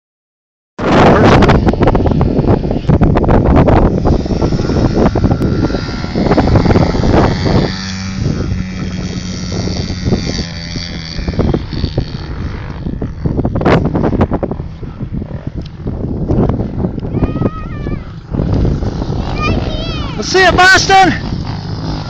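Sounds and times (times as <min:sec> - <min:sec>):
dirt bike engine running: 0:00.8 - 0:22.0
wind buffeting microphone: 0:00.8 - 0:22.0.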